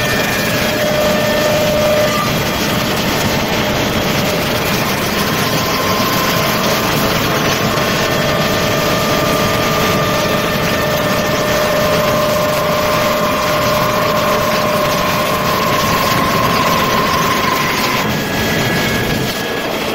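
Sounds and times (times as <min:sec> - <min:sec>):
faint machine whines: 0:00.0 - 0:19.9
wood lathe running: 0:00.0 - 0:19.9.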